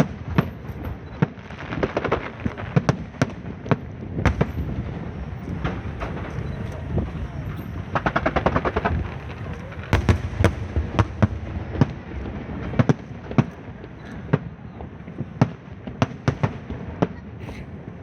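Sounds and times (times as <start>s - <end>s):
firecrackers and fireworks popping: 0.0s - 18.0s.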